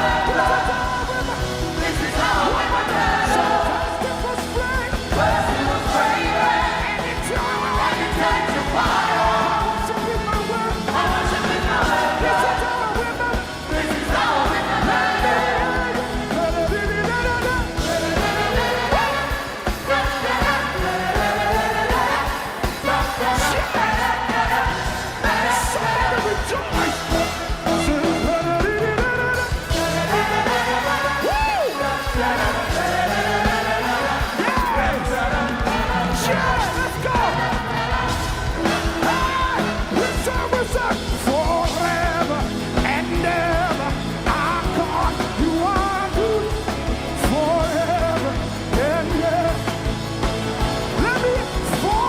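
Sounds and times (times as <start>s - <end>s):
band with drums and bass: 0.0s - 52.0s
congregation singing loudly: 0.0s - 52.0s.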